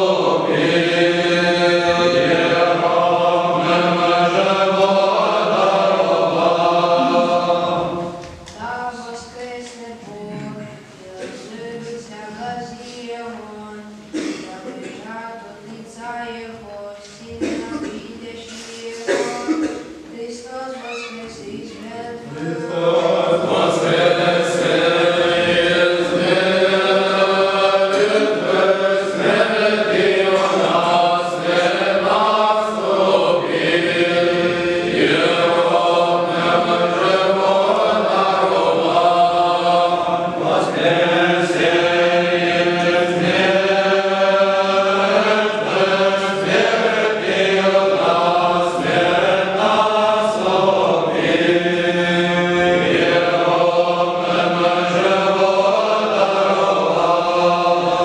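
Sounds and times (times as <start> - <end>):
voices chanting: 0.0 - 58.0.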